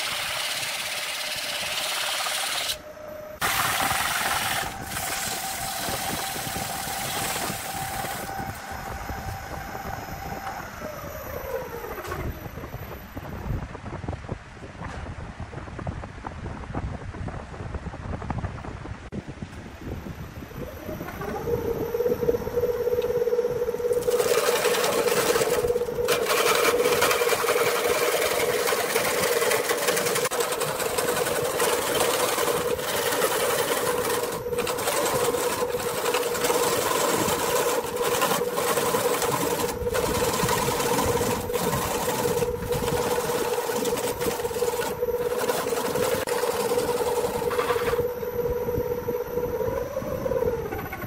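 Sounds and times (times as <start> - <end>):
tool scraping spinning wood: 0.0 - 12.4, 20.6 - 51.0
lathe motor hum: 0.0 - 12.6, 20.5 - 51.0.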